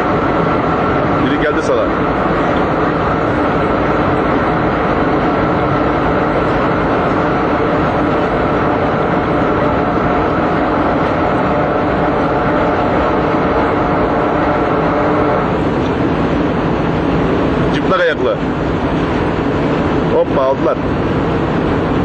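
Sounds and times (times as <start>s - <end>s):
loud machinery noise with tones: 0.0s - 22.0s.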